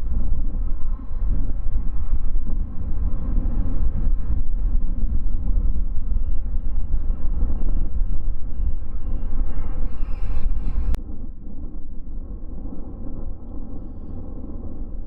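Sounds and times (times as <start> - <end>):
distant aircraft and vehicle rumble: 0.0 - 15.0
wind on microphone: 0.0 - 15.0.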